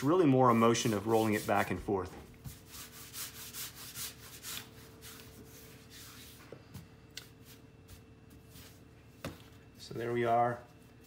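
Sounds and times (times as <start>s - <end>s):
hands rubbing dough on bench: 0.0s - 9.8s.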